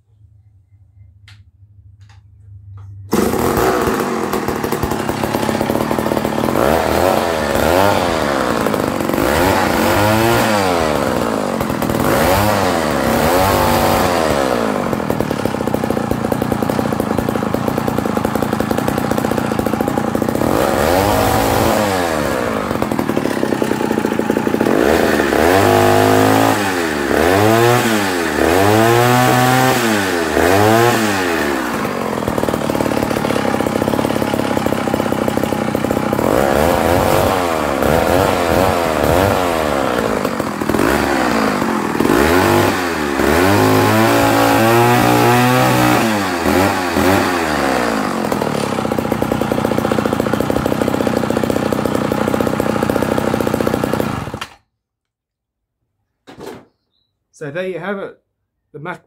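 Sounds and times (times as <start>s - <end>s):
chainsaw idling and revving: 3.1s - 54.7s.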